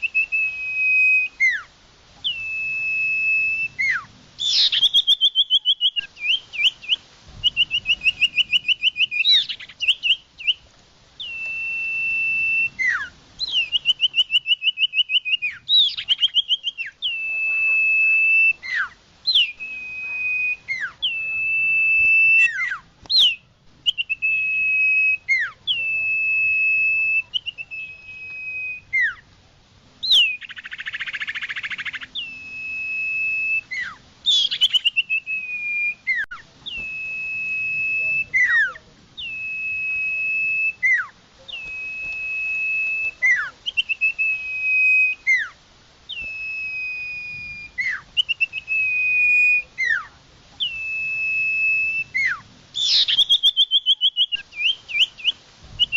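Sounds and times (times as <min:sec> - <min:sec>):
bird whistling and trilling: 0:00.0 - 0:10.6, 0:11.2 - 0:29.3, 0:30.0 - 0:55.9.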